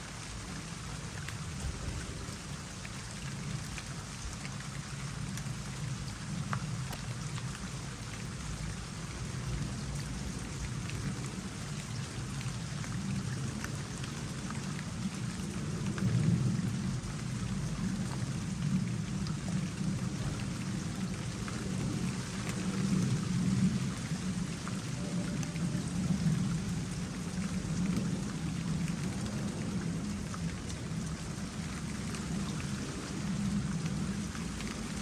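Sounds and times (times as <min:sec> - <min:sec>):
raindrops pattering on water: 0:00.0 - 0:35.0
water trickling into pond: 0:00.0 - 0:35.0.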